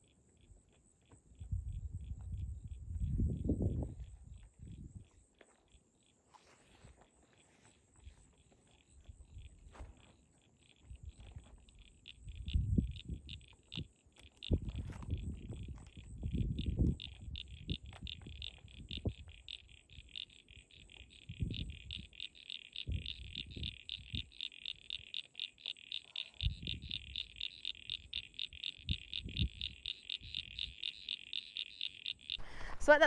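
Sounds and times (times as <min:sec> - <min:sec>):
frogs calling in pulses: 0:00.0 - 0:33.0.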